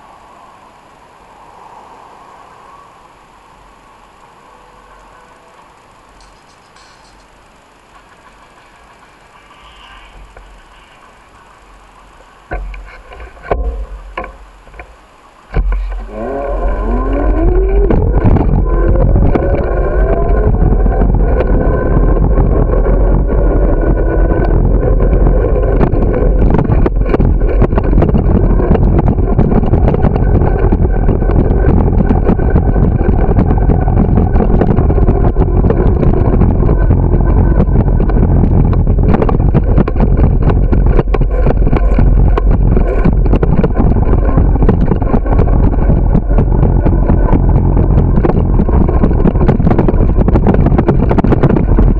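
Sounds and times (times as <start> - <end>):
bicycle rattling over pavement: 5.7 - 51.9
wind rush on microphone: 5.7 - 51.9.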